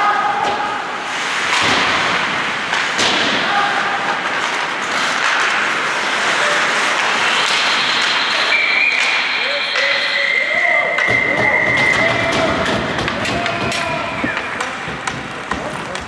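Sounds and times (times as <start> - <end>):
sharp knocks in ice rink: 0.4 - 9.3, 11.0 - 16.0.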